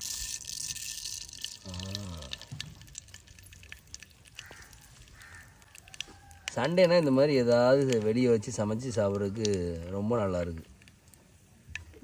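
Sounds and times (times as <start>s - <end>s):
seeds sizzling in hot oil: 0.0s - 11.3s.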